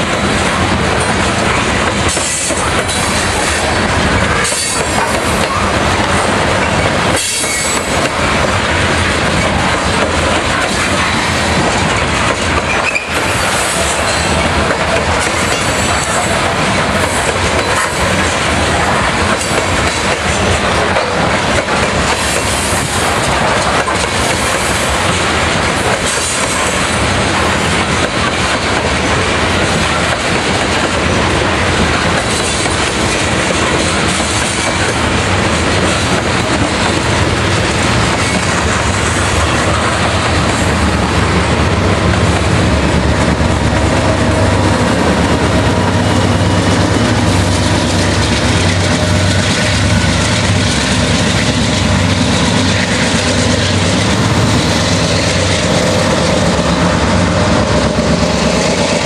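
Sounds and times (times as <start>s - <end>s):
diesel locomotive engine hum: 0.0s - 59.0s
train wheels clattering on rails: 0.0s - 59.0s.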